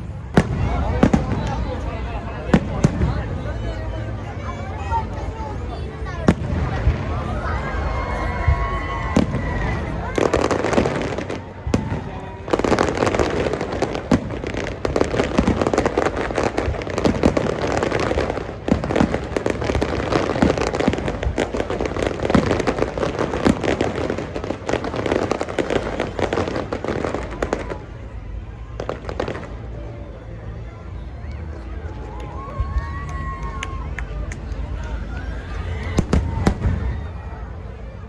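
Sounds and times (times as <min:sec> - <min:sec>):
fireworks bangs and crackles: 0:00.0 - 0:30.0, 0:31.3 - 0:38.0.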